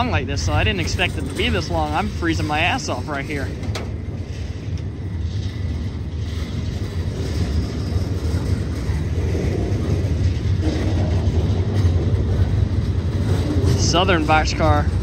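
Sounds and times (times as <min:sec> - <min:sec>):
train cars rumbling past: 0:00.0 - 0:15.0.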